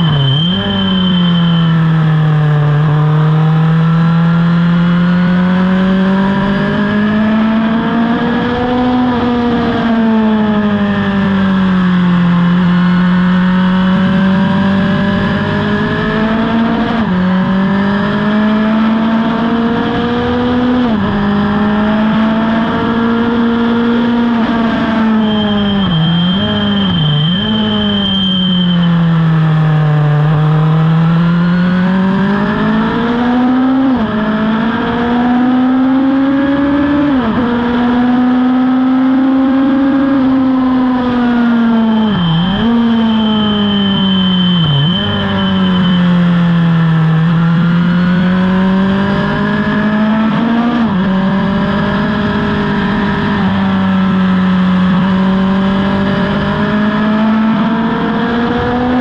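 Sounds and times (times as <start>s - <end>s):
racing motorcycle engine: 0.0s - 59.0s.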